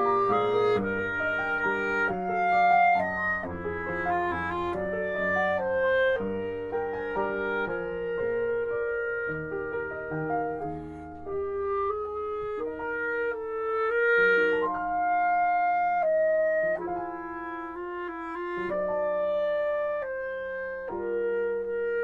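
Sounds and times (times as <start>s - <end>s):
clarinet melody: 0.0s - 22.0s
piano accompaniment: 0.0s - 22.0s.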